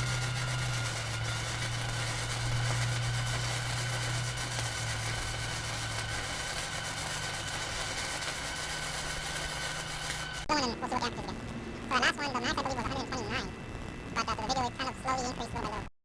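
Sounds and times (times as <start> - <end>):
low hum: 0.0 - 15.9
welding arc sizzle: 0.0 - 15.9.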